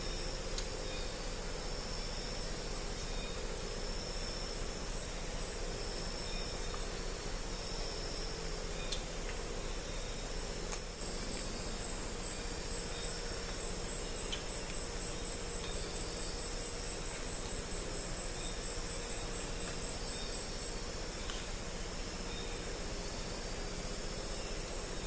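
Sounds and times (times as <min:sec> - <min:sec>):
constant hiss: 0:00.0 - 0:25.0
insect chorus: 0:00.0 - 0:25.0
pulsing insect chirp: 0:00.0 - 0:25.0.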